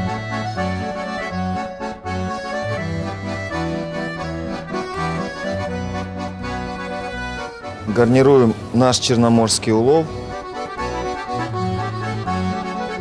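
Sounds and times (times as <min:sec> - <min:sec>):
lively accordion music: 0:00.0 - 0:13.0.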